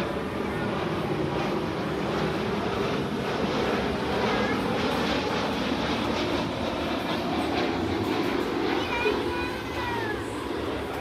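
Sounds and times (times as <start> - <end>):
jet engine noise: 0.0 - 11.0.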